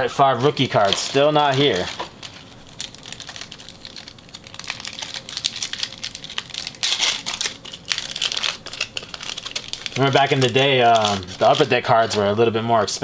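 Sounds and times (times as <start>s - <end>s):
card pack wrapper crinkling: 0.2s - 12.3s.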